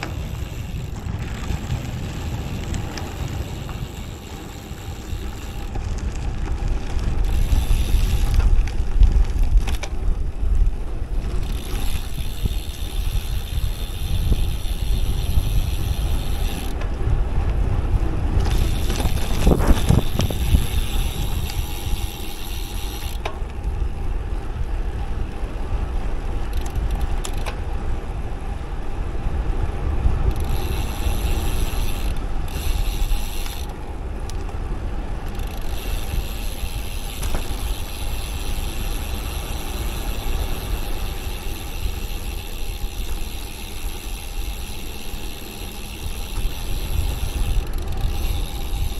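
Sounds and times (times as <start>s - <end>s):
bicycle freehub buzzing: 0.0s - 48.9s
bicycle tyre noise on road: 0.0s - 48.9s
wind rumbling over microphone: 0.0s - 48.9s.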